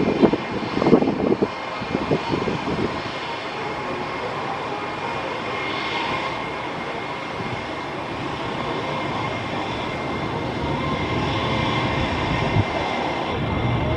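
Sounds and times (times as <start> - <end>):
distant jet engine rumble: 0.0 - 13.9.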